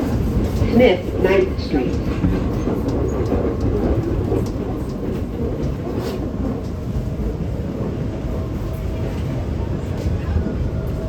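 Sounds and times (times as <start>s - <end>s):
subway car rumbling on track: 0.0s - 11.0s.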